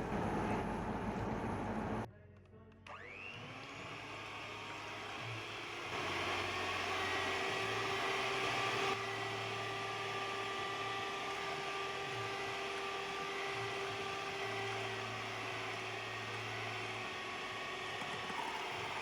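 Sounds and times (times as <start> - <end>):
small electric motor whining: 2.9 - 19.0.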